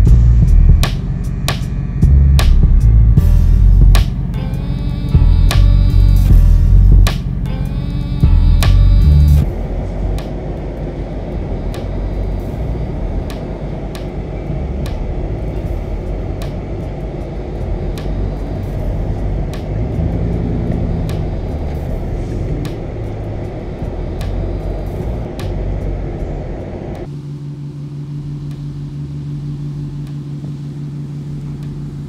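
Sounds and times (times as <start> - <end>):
truck engine rumble: 0.0 - 32.0.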